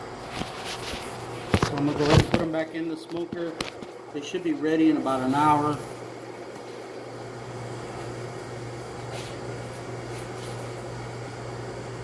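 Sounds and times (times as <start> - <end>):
smoker motor humming: 0.0 - 12.0.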